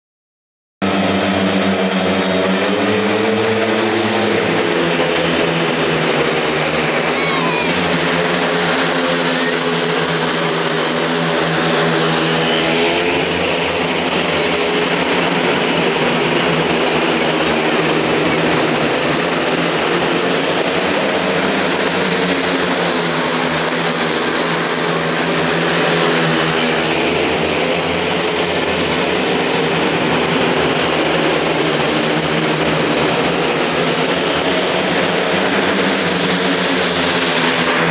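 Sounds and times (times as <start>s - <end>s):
motorcycle engines racing: 0.8s - 37.9s.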